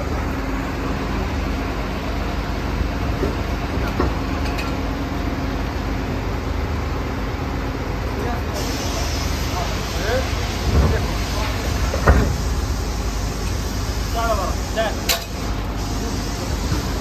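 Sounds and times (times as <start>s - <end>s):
drilling rig engine humming: 0.0s - 17.0s.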